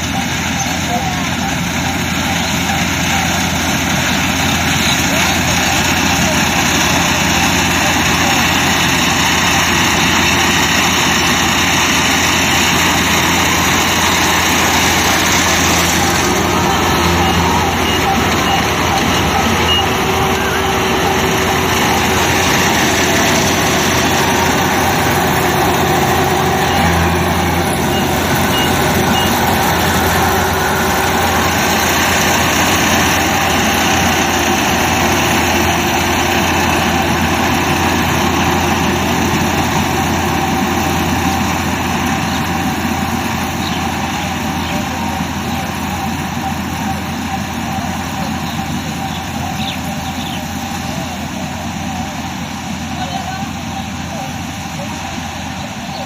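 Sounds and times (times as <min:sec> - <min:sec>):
combine harvester diesel engine: 0:00.0 - 0:56.0.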